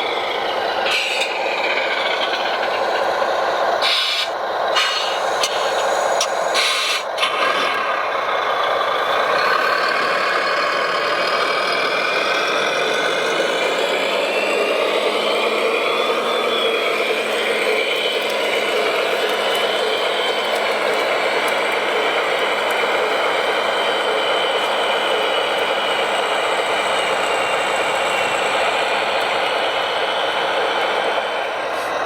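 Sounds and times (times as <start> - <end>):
model truck motor running: 0.0 - 32.0.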